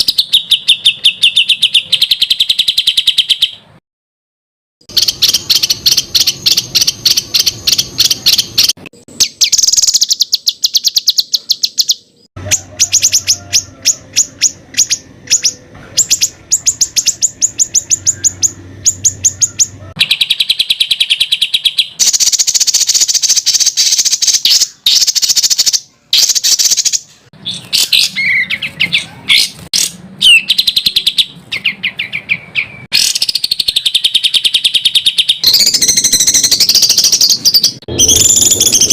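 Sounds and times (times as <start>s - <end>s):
songbird singing sharp repeated notes: 0.0s - 3.8s, 4.8s - 38.9s
warbled bird notes: 4.9s - 38.9s.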